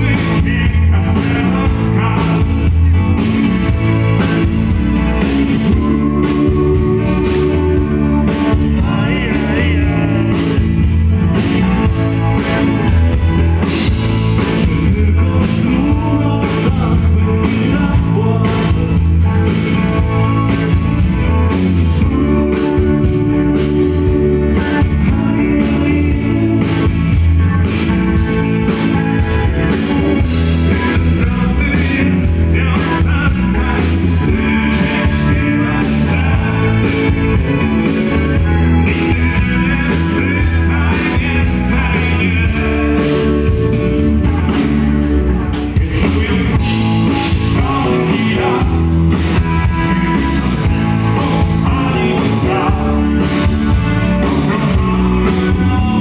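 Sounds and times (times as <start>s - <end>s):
live rock band playing: 0.0s - 56.0s
steady drum beat: 0.0s - 56.0s.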